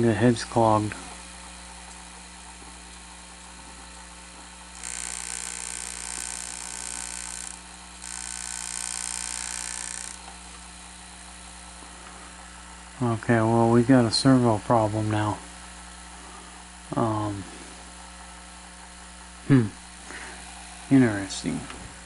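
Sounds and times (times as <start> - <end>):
hissing mechanical whir: 0.0 - 18.1
steady hum: 0.0 - 22.0.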